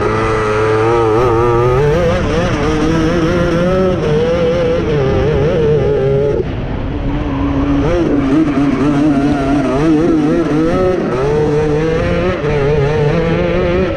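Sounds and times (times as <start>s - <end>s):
kart engine racing: 0.0s - 13.9s.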